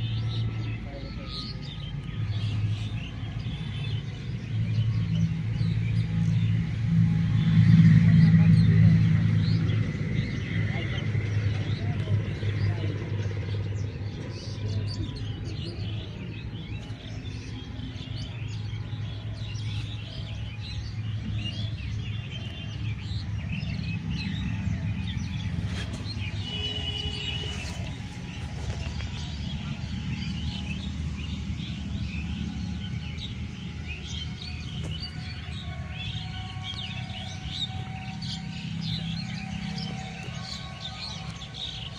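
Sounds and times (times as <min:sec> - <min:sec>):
wild birds chirping: 0:00.0 - 0:41.9.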